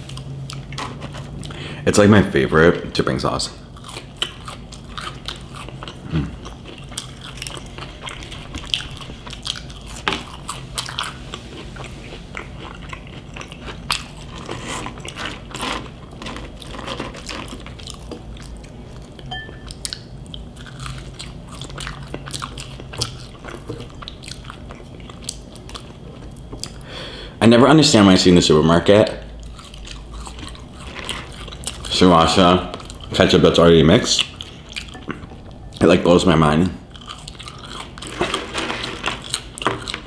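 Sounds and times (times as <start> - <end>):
person chewing crunchy food: 0.0 - 1.8, 3.6 - 27.0, 29.3 - 36.2, 36.8 - 40.0.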